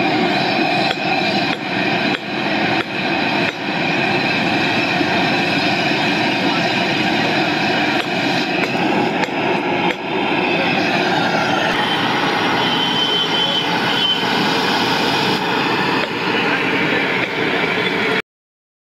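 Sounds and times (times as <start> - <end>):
stove burner roaring: 0.0 - 18.2.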